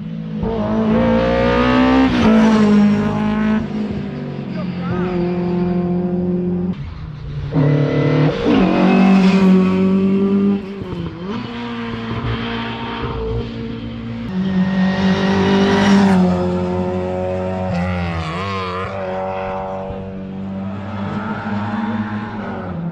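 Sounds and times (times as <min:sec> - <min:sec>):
rally car engine revving: 0:00.3 - 0:22.9.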